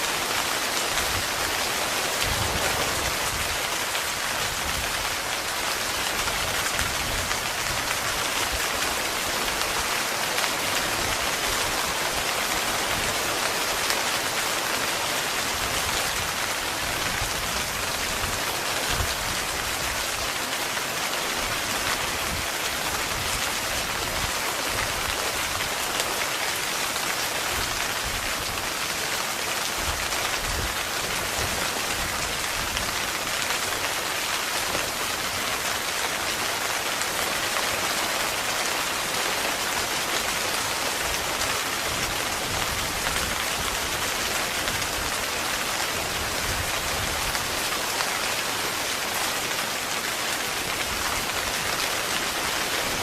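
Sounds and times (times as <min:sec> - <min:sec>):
heavy rain on a tent: 0:00.0 - 0:53.0.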